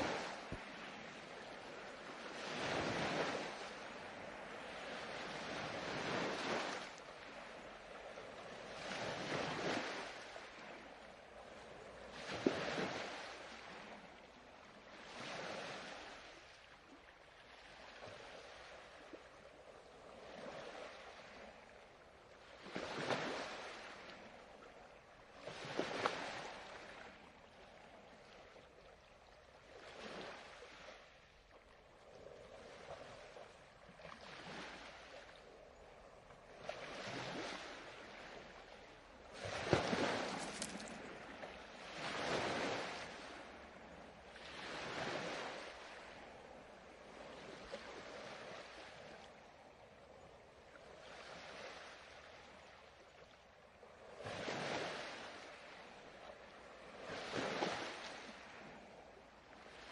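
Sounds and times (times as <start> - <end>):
ocean waves breaking: 0.0 - 19.2, 22.4 - 24.4, 25.4 - 28.4, 29.6 - 49.6, 54.0 - 59.9.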